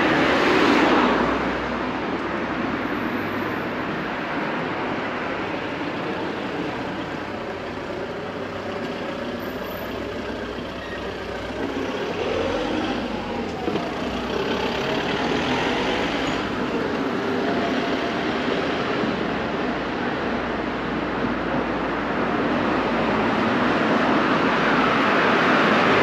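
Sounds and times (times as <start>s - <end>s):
motor vehicle on road: 0.0s - 26.0s.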